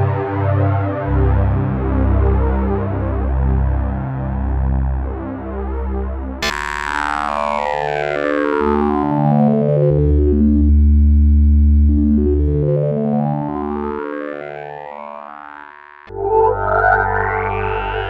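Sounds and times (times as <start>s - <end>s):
synthesizer pad with low notes: 0.0s - 18.0s.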